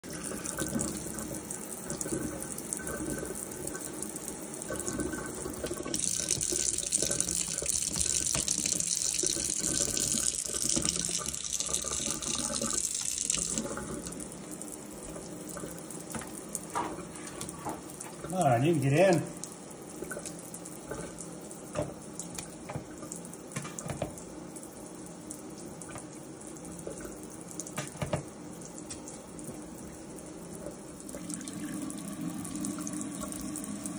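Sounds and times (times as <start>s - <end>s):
faucet running into metal sink: 0.0s - 24.4s, 25.3s - 33.9s.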